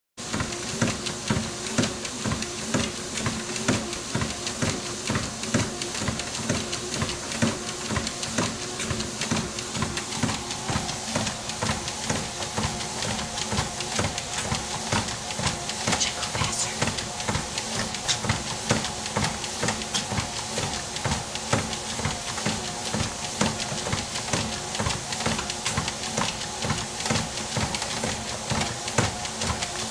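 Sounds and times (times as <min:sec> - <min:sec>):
footfalls on treadmill belt: 0:00.2 - 0:15.9, 0:17.2 - 0:29.9
treadmill motor humming: 0:00.2 - 0:29.9.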